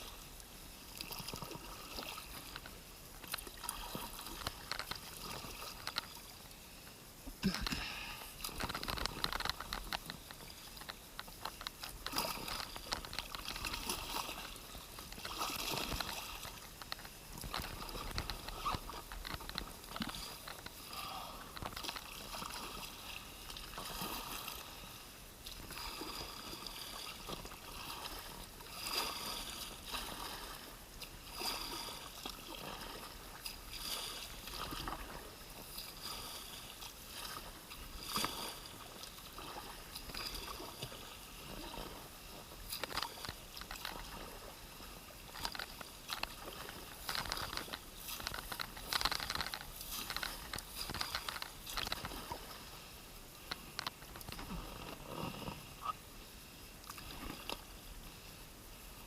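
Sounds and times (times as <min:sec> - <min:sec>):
paddle splashes: 0:00.0 - 0:59.0
water sloshing around hull: 0:00.0 - 0:59.0.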